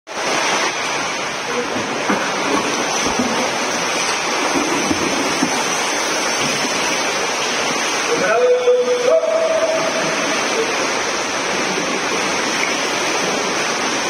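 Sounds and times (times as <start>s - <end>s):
swimmers splashing: 0.1s - 14.0s.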